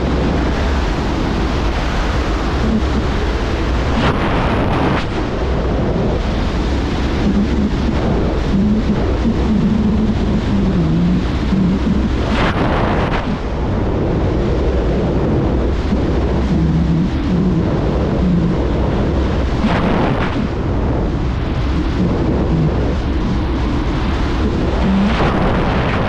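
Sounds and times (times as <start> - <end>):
freefall wind buffeting microphone: 0.0 - 26.0.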